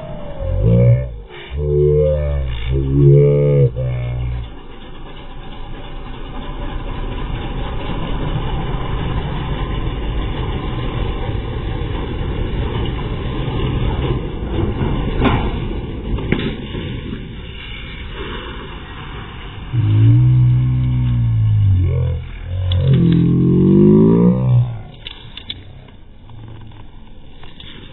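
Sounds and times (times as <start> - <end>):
truck engine running under load: 0.0 - 27.9.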